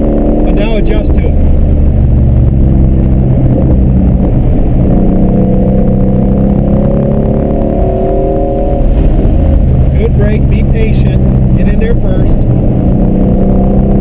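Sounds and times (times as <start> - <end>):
car engine revving from inside cabin: 0.0 - 14.0.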